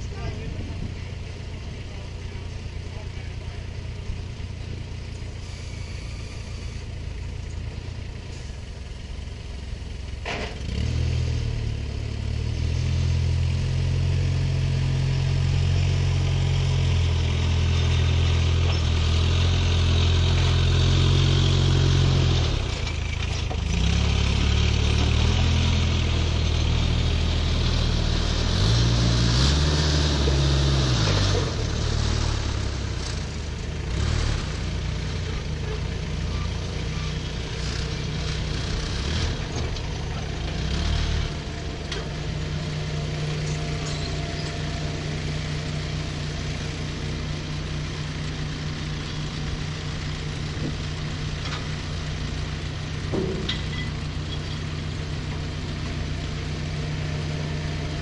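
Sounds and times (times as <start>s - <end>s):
heavy diesel engine: 0.0s - 58.0s.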